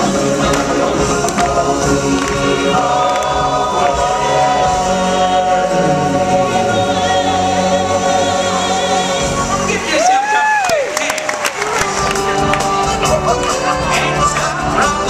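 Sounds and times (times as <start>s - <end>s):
choir singing: 0.0s - 10.1s, 11.0s - 15.0s
musical accompaniment: 0.0s - 15.0s.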